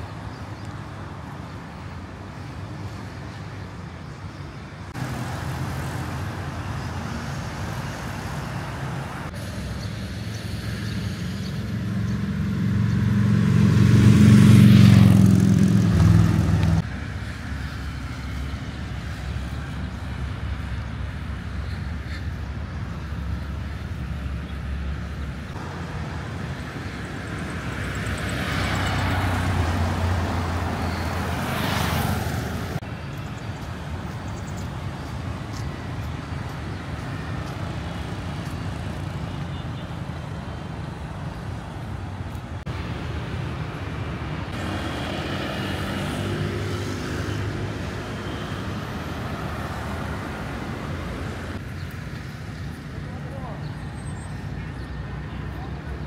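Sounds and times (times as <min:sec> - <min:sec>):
passing vehicles: 0:00.0 - 0:56.0.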